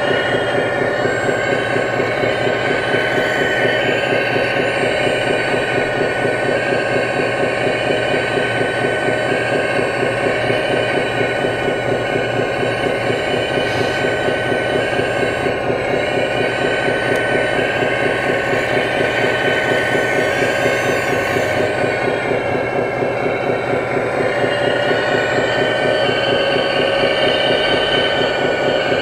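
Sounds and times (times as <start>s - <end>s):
toy excavator hydraulic whine: 0.0s - 29.0s.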